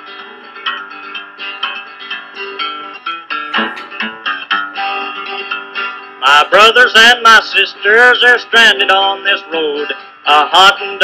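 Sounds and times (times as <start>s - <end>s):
folk guitar picking: 0.0s - 11.0s.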